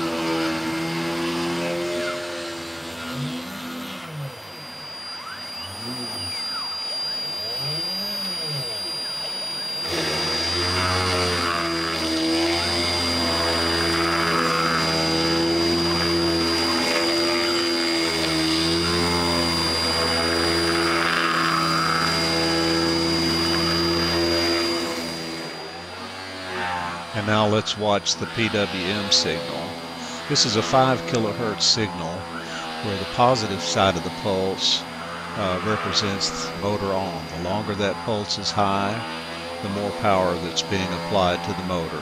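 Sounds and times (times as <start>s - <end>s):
axis motors tones: 0.0s - 42.0s
spindle motor high whine: 0.0s - 42.0s.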